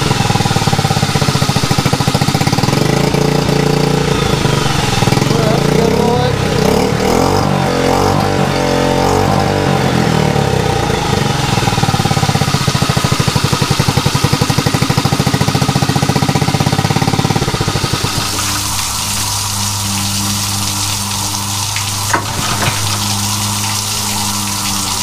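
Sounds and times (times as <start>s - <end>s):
outboard motor running: 0.0s - 25.0s.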